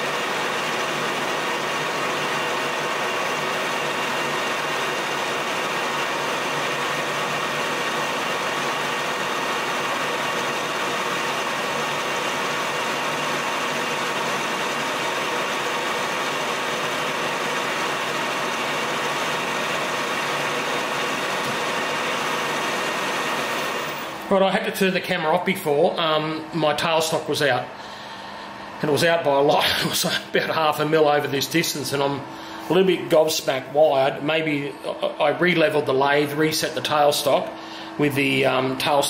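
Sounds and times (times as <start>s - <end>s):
lathe gear whine: 0.0s - 39.0s.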